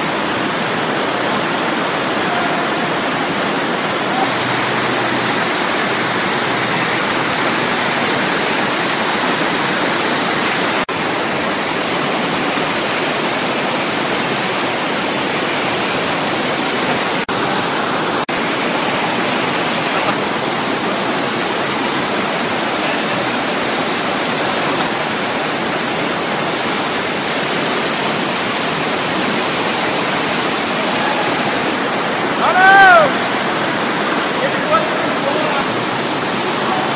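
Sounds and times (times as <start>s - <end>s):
loud rush of water: 0.0s - 36.9s.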